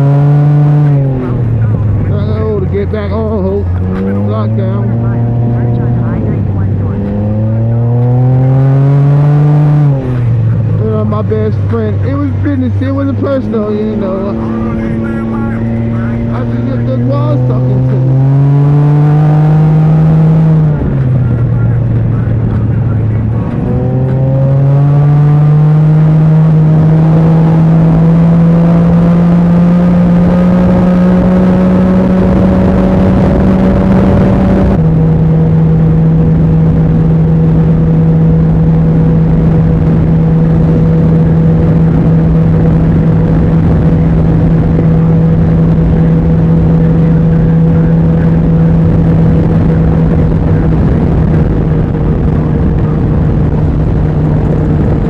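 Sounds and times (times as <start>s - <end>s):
three-wheeler engine accelerating: 0.0s - 55.0s.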